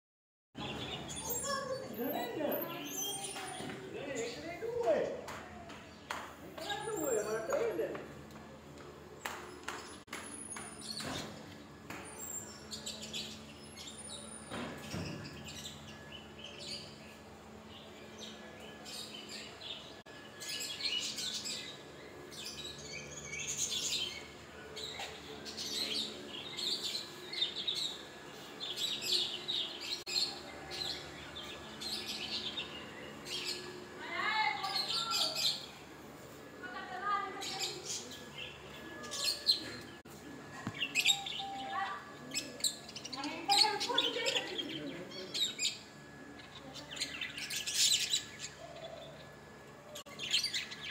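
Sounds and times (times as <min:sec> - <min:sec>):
small birds chirping: 0:00.6 - 0:35.9, 0:36.7 - 0:50.9.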